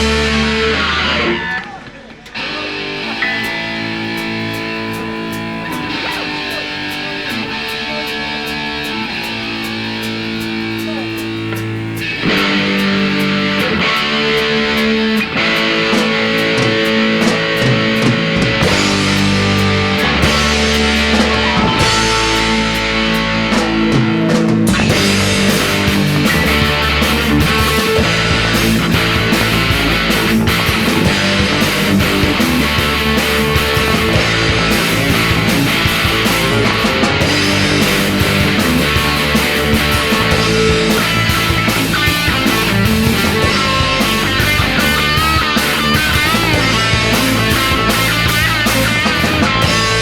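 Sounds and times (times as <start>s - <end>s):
instrumental rock music: 0.0s - 50.0s.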